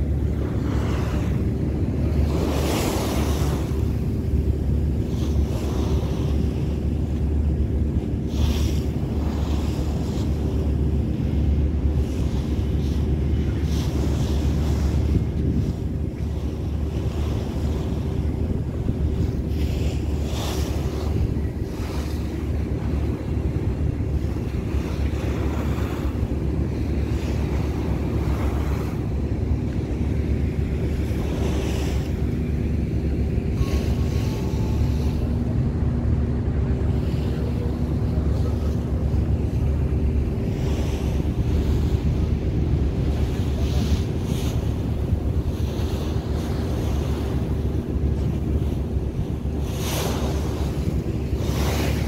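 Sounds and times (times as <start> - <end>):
ferry engine rumble: 0.0 - 52.0
water rushing past hull: 0.0 - 52.0
wind buffeting microphone: 0.0 - 52.0.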